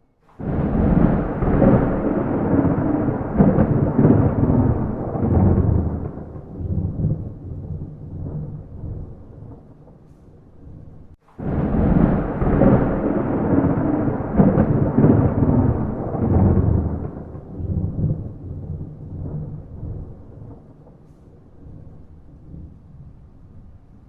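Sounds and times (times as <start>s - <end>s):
thunder rumbling: 0.0s - 24.0s.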